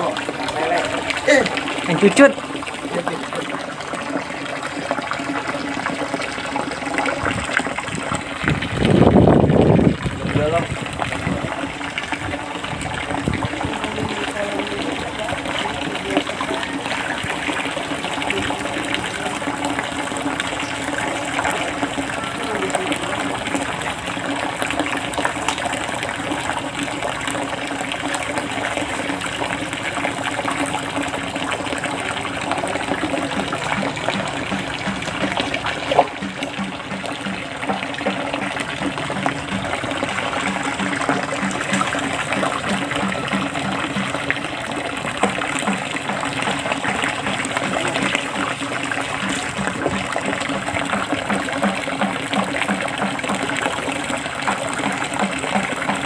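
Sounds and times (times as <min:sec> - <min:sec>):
water gushing and trickling: 0:00.0 - 0:56.0.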